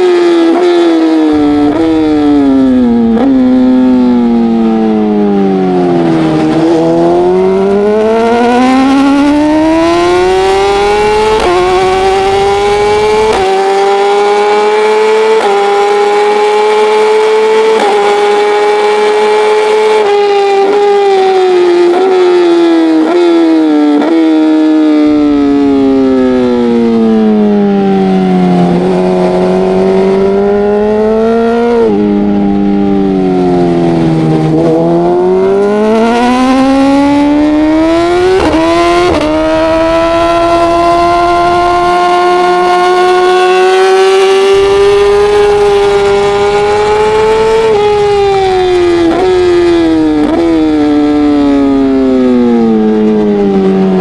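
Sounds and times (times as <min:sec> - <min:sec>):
racing motorcycle engine revving: 0:00.0 - 0:54.0
wind noise: 0:00.6 - 0:20.7, 0:24.9 - 0:54.0.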